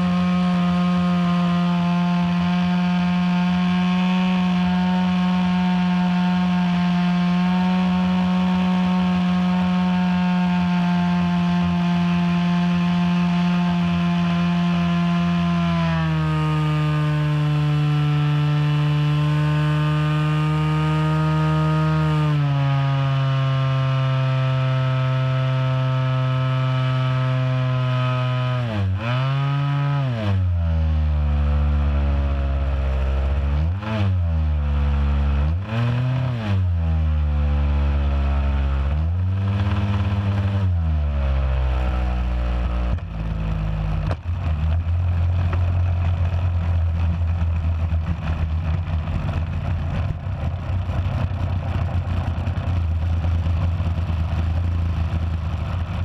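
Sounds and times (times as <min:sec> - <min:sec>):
model airplane engine and propeller: 0:00.0 - 0:56.0.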